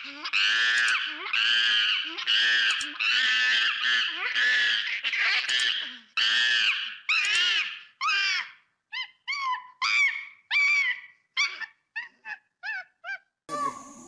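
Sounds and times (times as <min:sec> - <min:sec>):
monkey high-pitched calls: 0:00.0 - 0:14.0.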